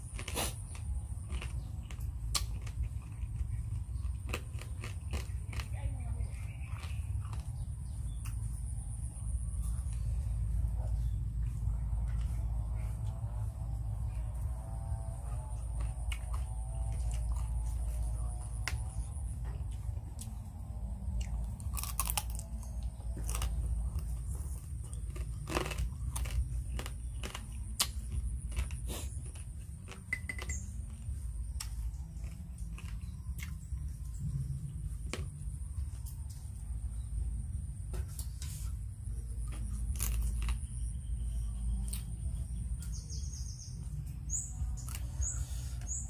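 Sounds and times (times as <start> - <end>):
crunchy chewing: 0.0 - 46.0.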